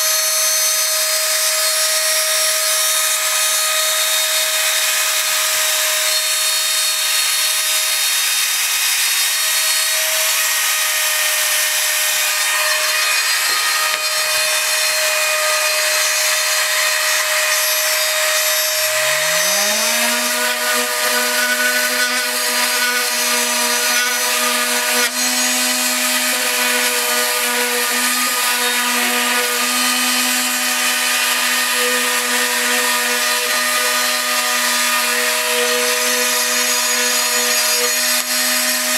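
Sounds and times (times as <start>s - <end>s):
orbital sander on plywood: 0.0s - 38.9s
router spindle whining: 0.0s - 38.9s.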